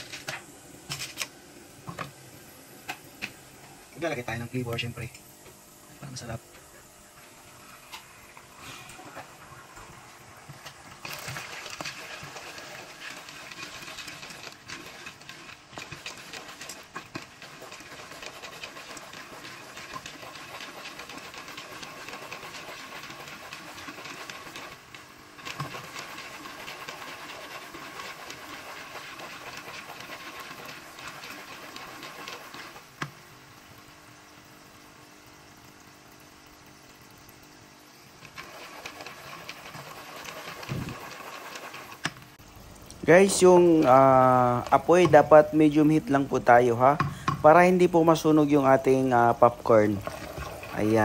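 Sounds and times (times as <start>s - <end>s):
sizzling and crackling in oil: 0.0s - 51.0s.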